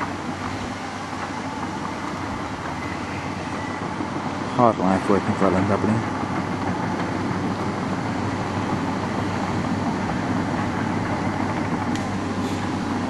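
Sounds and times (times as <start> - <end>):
distant diesel engine running: 0.0 - 13.0
wind buffeting microphone: 0.0 - 13.0.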